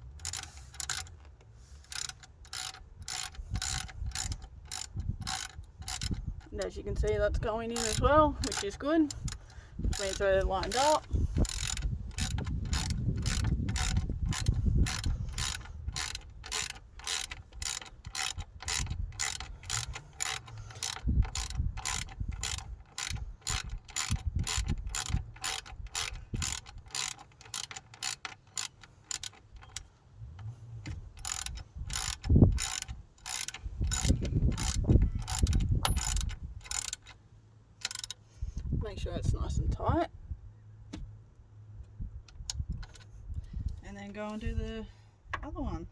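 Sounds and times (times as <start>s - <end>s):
ratchet wrench clicking: 0.0s - 37.2s, 37.8s - 38.3s.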